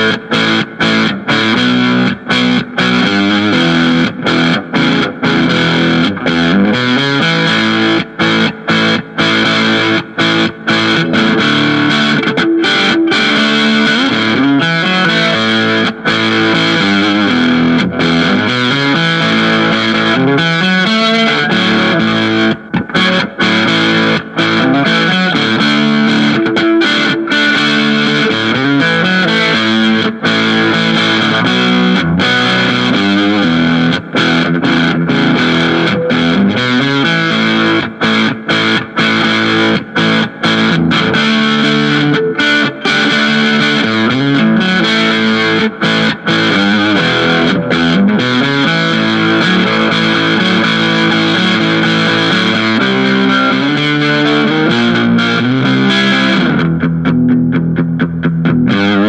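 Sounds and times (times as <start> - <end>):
distorted electric guitar melody: 0.0 - 59.0.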